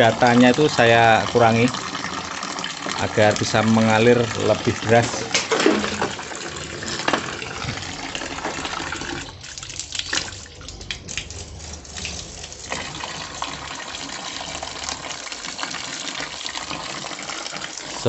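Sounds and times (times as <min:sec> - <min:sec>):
water splashing onto concrete: 0:00.0 - 0:18.0.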